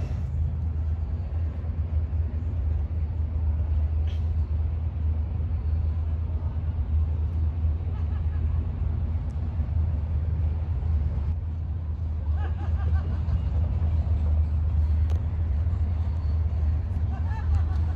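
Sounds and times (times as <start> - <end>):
distant locomotive rumble: 0.0 - 17.9.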